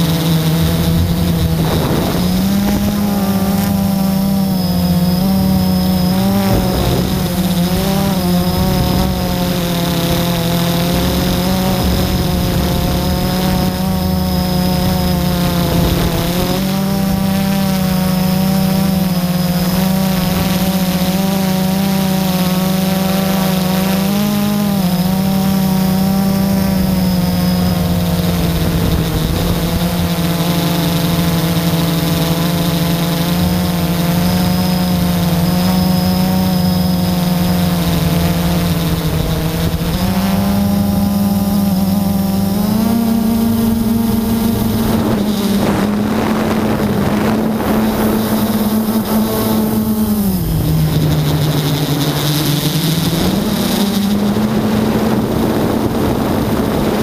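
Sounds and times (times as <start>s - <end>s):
quadcopter motors humming: 0.0s - 57.0s.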